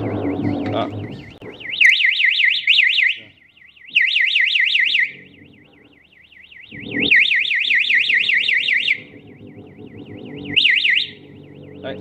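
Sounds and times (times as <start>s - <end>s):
alarm siren wailing: 0.0s - 12.0s.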